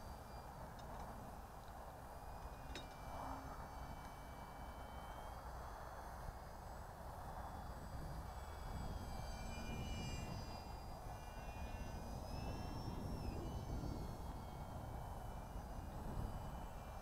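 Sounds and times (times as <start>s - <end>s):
model airplane motor whining: 0.0s - 17.0s.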